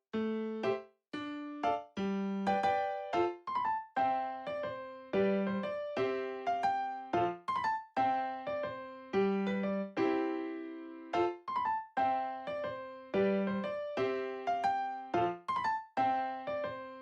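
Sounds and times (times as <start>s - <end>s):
piano music: 0.1s - 17.0s.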